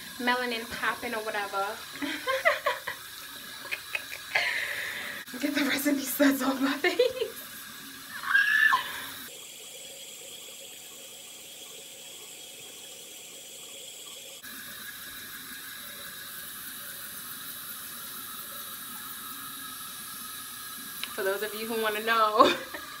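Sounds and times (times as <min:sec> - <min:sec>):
sink tap running: 0:00.0 - 0:23.0.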